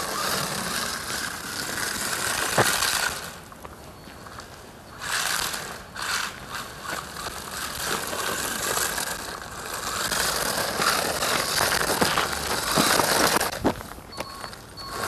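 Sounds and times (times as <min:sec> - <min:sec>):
rc truck motor and gear whine: 0:00.0 - 0:15.0
tire noise on asphalt: 0:00.0 - 0:15.0.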